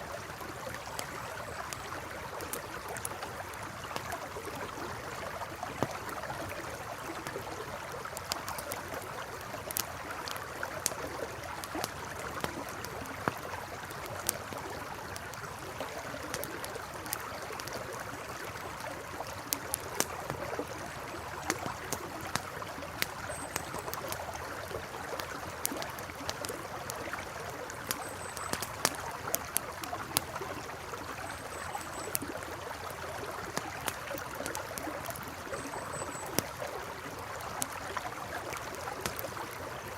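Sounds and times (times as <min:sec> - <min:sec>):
campfire crackling and popping: 0:00.0 - 0:39.9
river flowing: 0:00.0 - 0:39.9.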